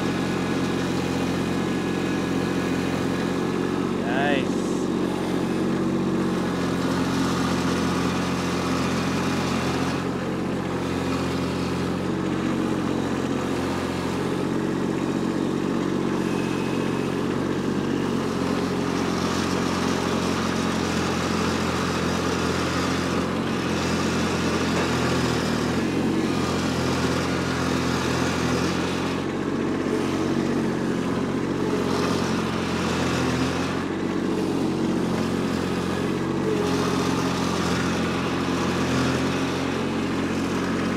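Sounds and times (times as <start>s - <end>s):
loader bucket scraping soil: 0.0s - 40.9s
tractor diesel engine under load: 0.0s - 40.9s.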